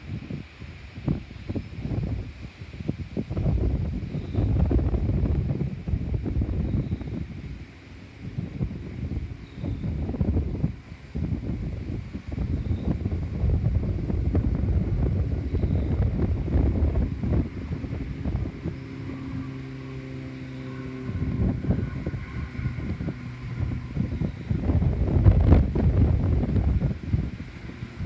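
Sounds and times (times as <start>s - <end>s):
steady droning hum: 0.0s - 28.0s
wind buffeting microphone: 0.0s - 28.0s.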